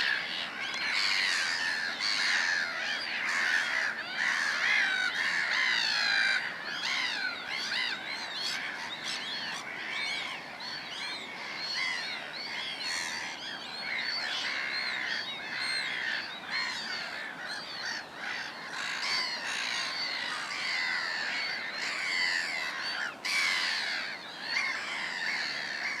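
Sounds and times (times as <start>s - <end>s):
dense bird chorus: 0.0s - 26.0s.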